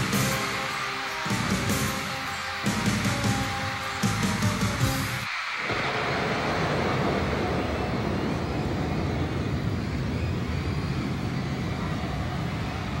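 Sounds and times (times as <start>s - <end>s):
crowd cheering and screaming: 0.0s - 13.0s.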